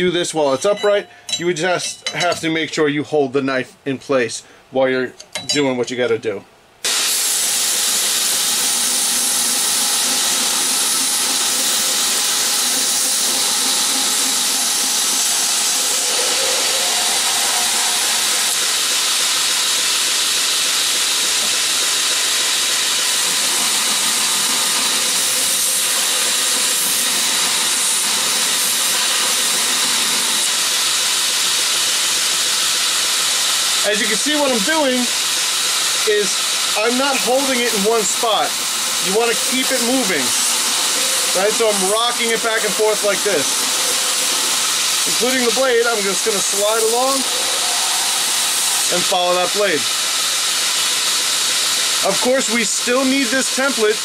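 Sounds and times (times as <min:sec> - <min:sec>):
belt grinder hissing: 0:06.8 - 0:54.0.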